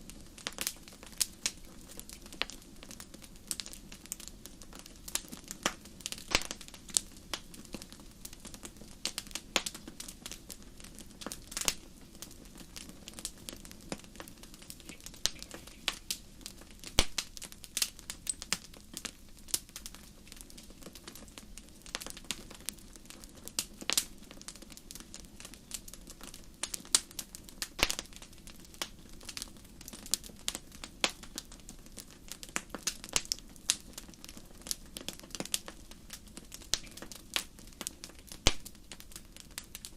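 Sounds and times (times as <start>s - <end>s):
fire pops and snaps: 0.0s - 39.9s
hiss of burning: 0.0s - 39.9s
wood fire crackling: 0.0s - 39.9s.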